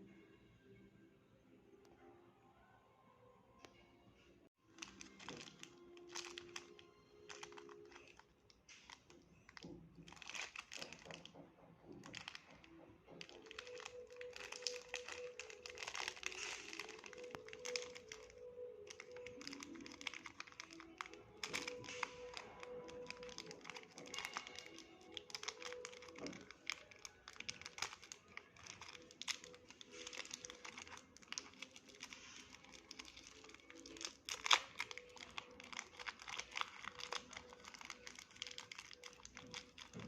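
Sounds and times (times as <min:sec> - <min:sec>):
faint background music: 0:00.0 - 0:40.0
wrapper crinkling: 0:04.6 - 0:40.0.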